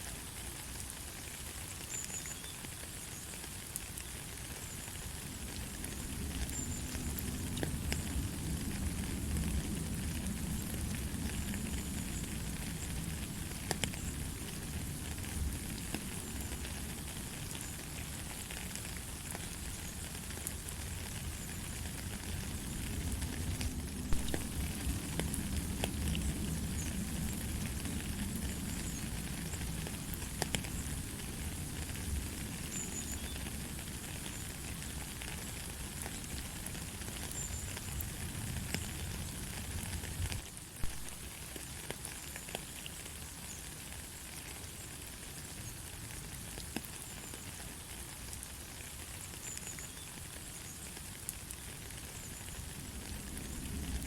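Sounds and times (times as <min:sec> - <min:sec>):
rain falling: 0:00.0 - 0:54.0
raindrops hitting nearby: 0:00.0 - 0:54.0.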